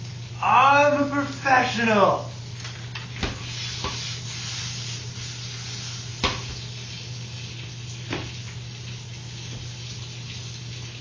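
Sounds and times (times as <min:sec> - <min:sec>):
food sizzling in a frying pan: 0:01.3 - 0:11.0.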